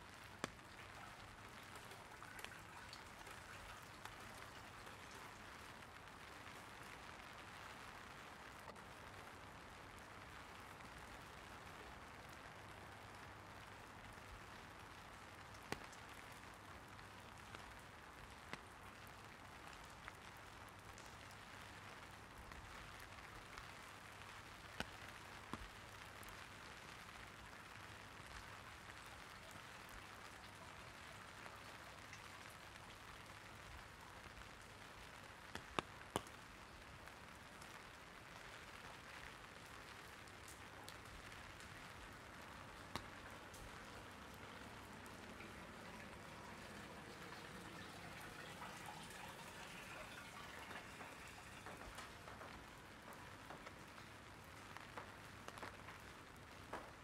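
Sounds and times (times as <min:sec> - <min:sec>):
large raindrop ticks: 0:00.0 - 0:57.0
light rain on an umbrella: 0:00.0 - 0:57.0.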